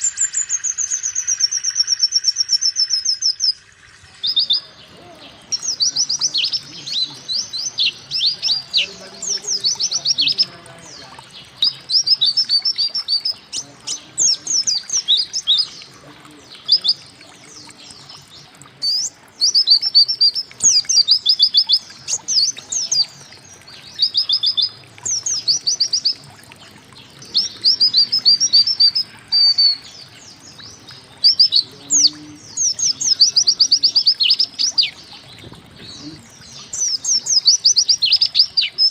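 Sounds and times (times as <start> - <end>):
bird chirps and trills: 0.0 - 38.9.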